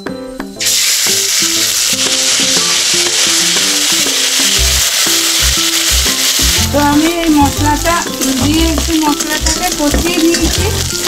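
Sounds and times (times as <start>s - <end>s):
spice paste sizzling in oil: 0.6s - 11.0s.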